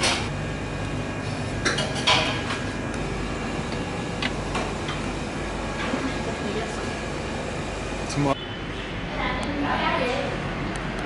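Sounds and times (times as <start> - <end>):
refrigeration hum: 0.0 - 11.0.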